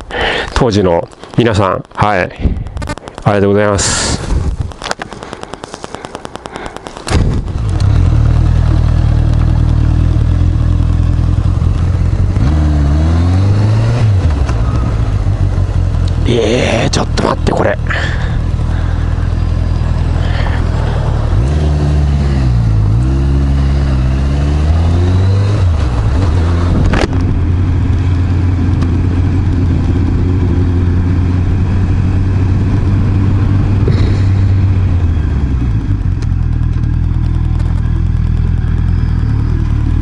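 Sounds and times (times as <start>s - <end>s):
wind and road noise: 0.0s - 40.0s
motorcycle engine revving: 4.0s - 40.0s.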